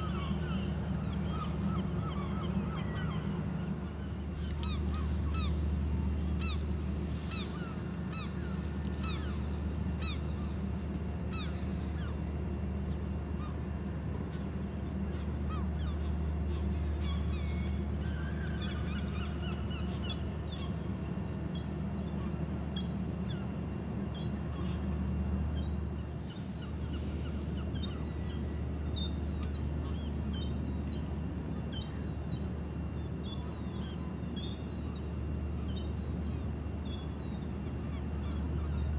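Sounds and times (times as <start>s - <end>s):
low machinery drone: 0.0s - 38.9s.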